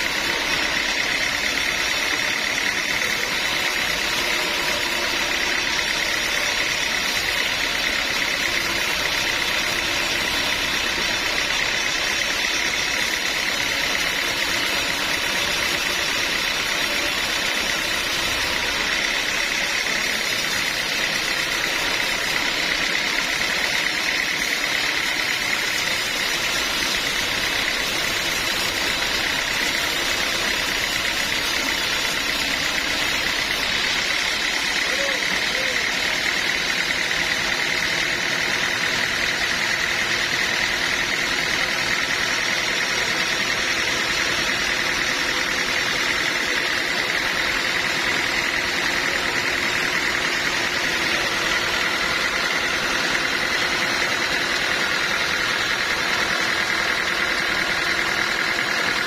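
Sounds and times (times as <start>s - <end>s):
high machine whine: 0.0s - 59.0s.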